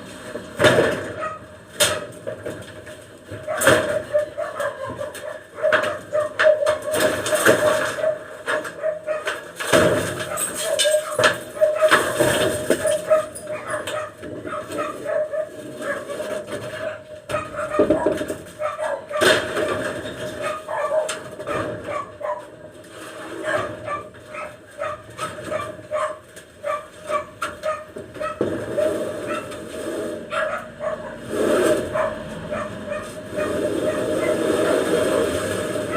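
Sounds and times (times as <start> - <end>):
dog barking and yipping: 1.1 - 1.5, 3.4 - 9.5, 10.2 - 22.6, 23.4 - 29.6, 30.3 - 35.9.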